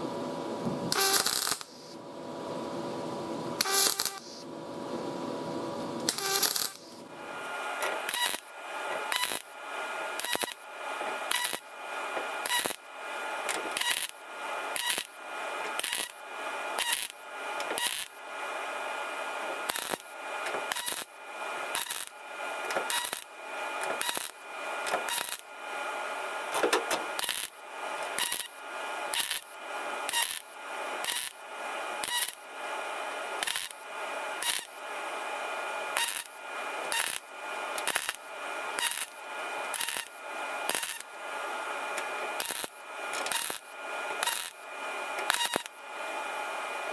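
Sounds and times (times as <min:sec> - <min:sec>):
welding arc crackling and buzzing: 0:00.6 - 0:02.0, 0:03.6 - 0:04.4, 0:06.0 - 0:46.9.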